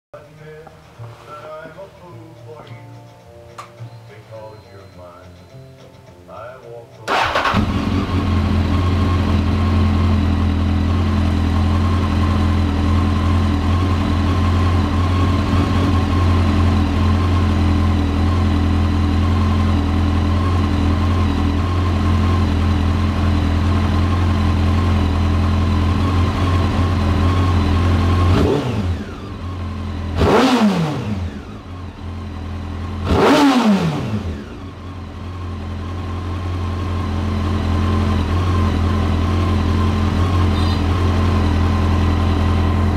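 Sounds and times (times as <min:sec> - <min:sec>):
motorcycle engine idling: 0:07.1 - 0:42.9
motorcycle engine revving: 0:07.1 - 0:42.9.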